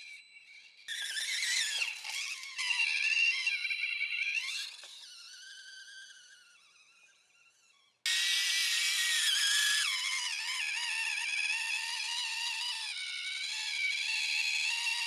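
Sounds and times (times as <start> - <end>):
rc truck motor whining: 0.8 - 15.0.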